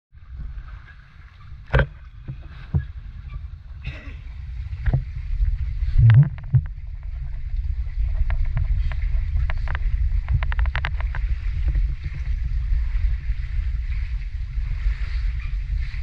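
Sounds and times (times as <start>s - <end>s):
steady low rumble: 0.2s - 16.0s.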